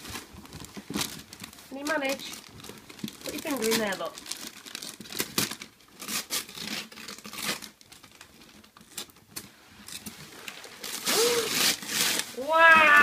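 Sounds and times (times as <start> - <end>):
wrapping paper tearing: 0.9 - 13.0.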